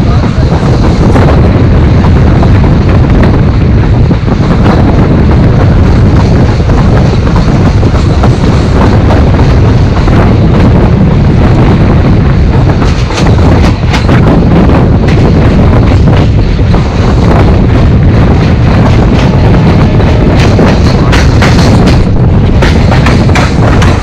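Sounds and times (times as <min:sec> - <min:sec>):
train rumbling on rails: 0:00.0 - 0:24.0
wind buffeting microphone: 0:00.0 - 0:24.0.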